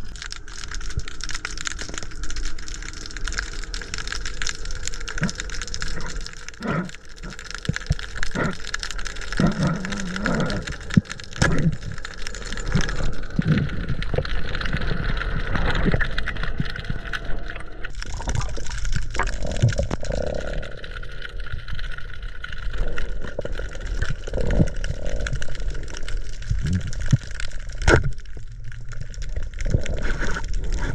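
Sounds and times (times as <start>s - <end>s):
underwater water rush with gurgling: 0.0s - 30.9s.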